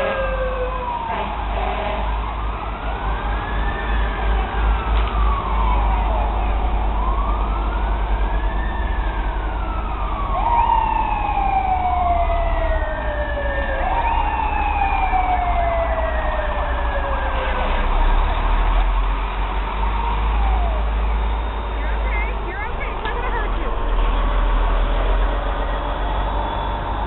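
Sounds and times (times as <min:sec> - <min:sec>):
fire truck sirens wailing: 0:00.0 - 0:27.0.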